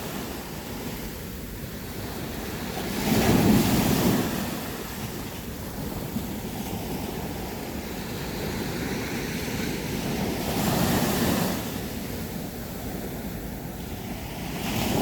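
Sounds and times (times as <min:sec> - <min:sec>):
sea waves washing onto beach: 0:00.0 - 0:15.0.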